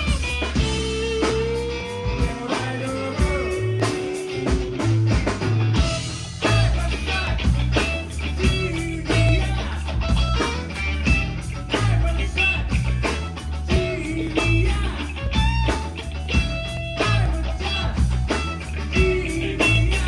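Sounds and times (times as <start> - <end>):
electric guitar lead bending notes: 0.0 - 20.0
rock band bass and drums: 0.0 - 20.0.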